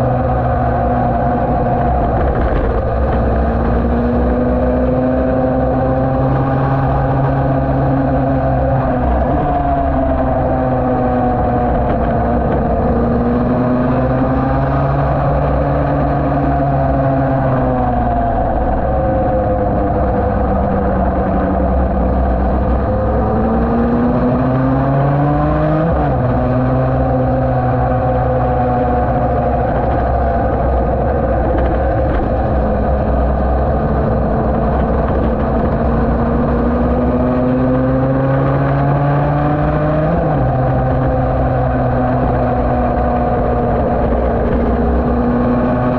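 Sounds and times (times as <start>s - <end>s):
two-stroke racing engine at speed: 0.0s - 45.9s.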